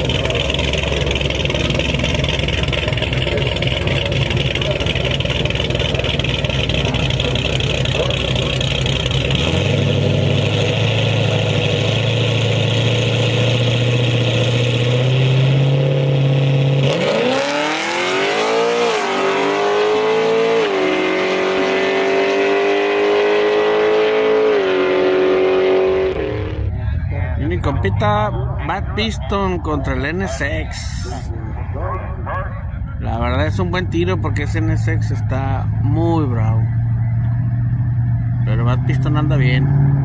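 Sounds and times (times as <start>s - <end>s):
car engine revving and accelerating: 0.0s - 40.0s.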